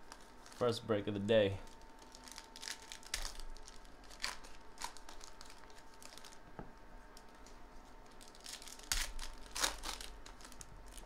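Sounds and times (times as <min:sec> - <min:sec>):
foil wrappers crinkling: 0:00.0 - 0:06.4, 0:07.2 - 0:11.0.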